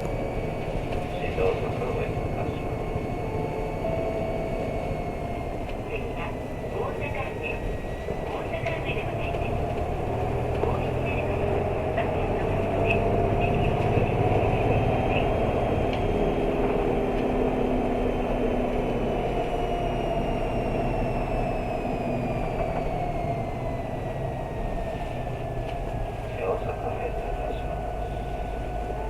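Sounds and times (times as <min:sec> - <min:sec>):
low bus engine drone: 0:00.0 - 0:29.0
whining tones: 0:00.0 - 0:29.0.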